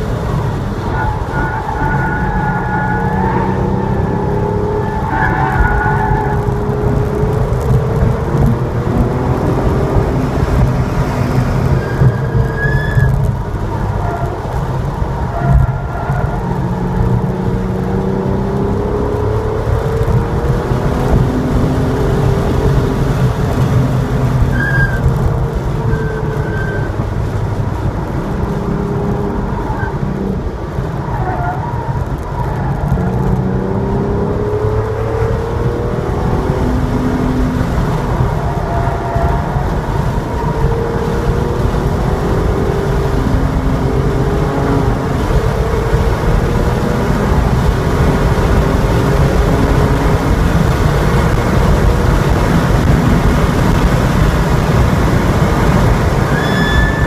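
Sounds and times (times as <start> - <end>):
car engine running hard: 0.0 - 57.0
road and wind noise: 0.0 - 57.0.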